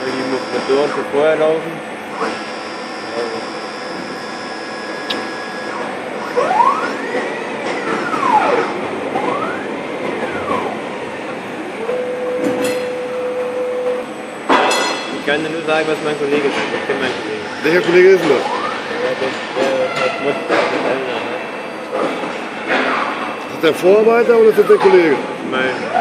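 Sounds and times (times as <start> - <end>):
motors whining: 0.0 - 14.5, 15.5 - 26.0
machine hum: 0.0 - 26.0
steady machine noise: 0.0 - 26.0.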